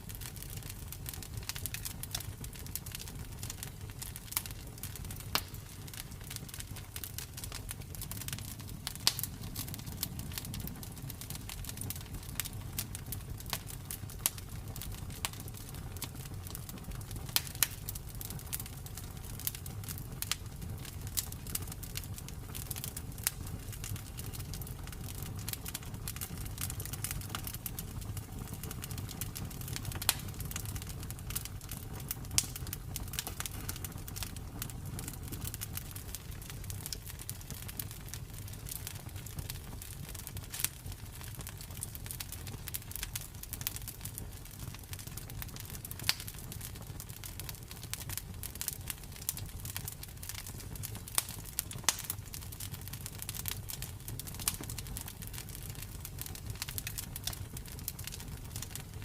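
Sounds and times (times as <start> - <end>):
campfire crackling and popping: 0.0 - 59.0
low rumble of flame: 0.0 - 59.0.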